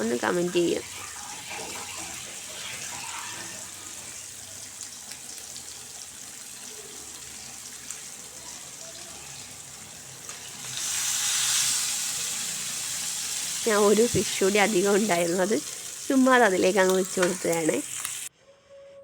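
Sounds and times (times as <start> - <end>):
fish sizzling in a pan: 0.0 - 18.3.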